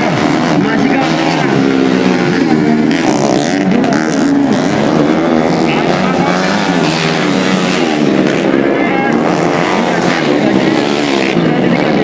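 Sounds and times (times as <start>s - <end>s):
dirt bike engines racing past: 0.0s - 12.0s.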